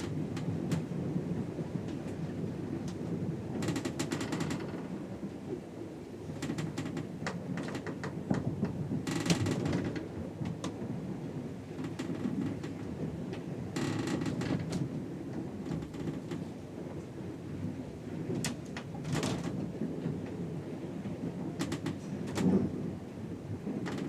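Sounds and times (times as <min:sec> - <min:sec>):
ship low rumble: 0:00.0 - 0:24.0.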